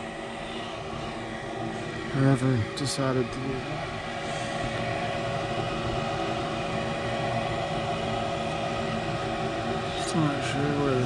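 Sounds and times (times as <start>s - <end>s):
furnace fan motor humming: 0.0s - 11.0s.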